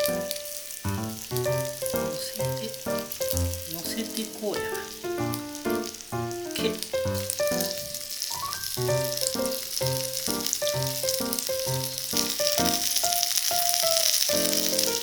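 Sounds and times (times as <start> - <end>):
food sizzling in hot oil: 0.0 - 15.0
melodic background music: 0.0 - 15.0.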